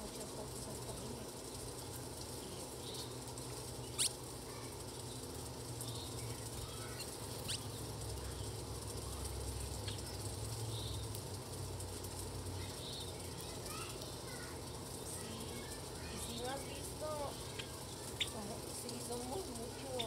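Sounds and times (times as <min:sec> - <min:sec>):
faint bird twittering: 0:00.0 - 0:11.2, 0:12.6 - 0:20.0
low background hum: 0:00.0 - 0:20.0.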